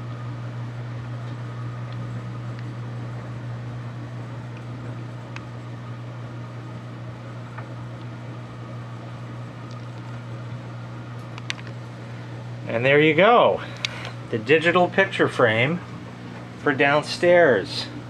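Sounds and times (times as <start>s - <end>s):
machine hum with whine: 0.0s - 18.0s.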